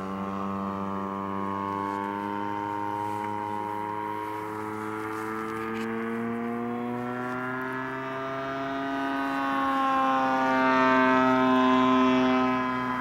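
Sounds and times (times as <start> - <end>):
model plane engine droning: 0.0 - 13.0.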